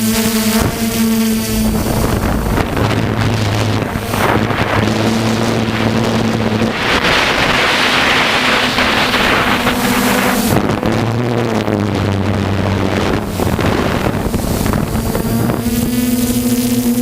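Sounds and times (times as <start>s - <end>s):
drone propellers humming: 0.0s - 17.0s
wind rushing over microphone: 0.0s - 17.0s.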